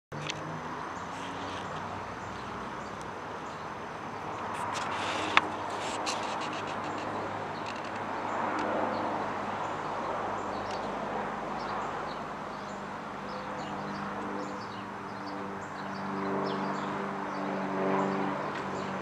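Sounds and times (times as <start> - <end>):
propeller plane engine drone: 0.1 - 19.0
small birds chirping: 0.2 - 19.0.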